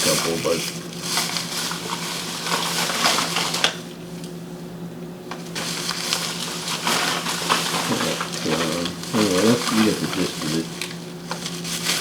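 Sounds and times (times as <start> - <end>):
film boxes rustling: 0.0 - 4.4, 5.2 - 12.0.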